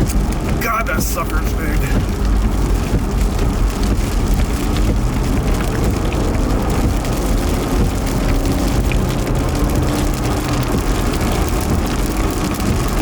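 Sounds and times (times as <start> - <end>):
engine and road noise: 0.0 - 13.0
rain ticking on vehicle: 0.0 - 13.0.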